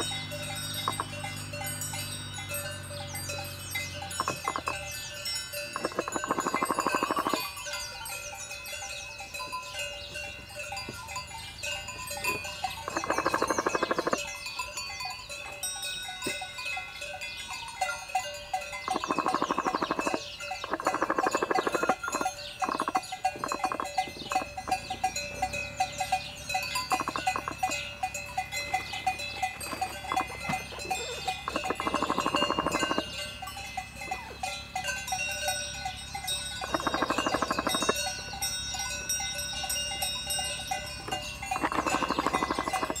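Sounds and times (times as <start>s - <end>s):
drawn-out call: 0.0s - 15.6s, 17.5s - 43.0s
cowbells ringing: 0.0s - 43.0s
small birds chirping: 0.0s - 43.0s.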